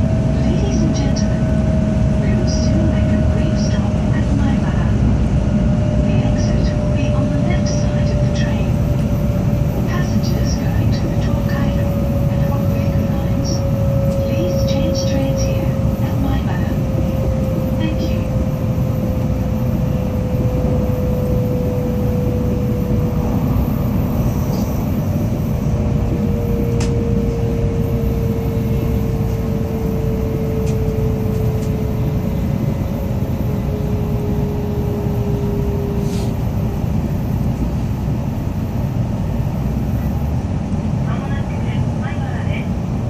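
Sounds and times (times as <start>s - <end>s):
train cabin low rumble: 0.0s - 43.0s.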